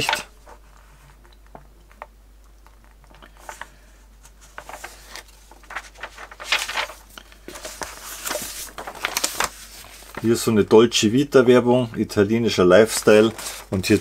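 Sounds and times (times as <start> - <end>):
magazine pages rustling: 0.0 - 10.8, 12.5 - 14.0.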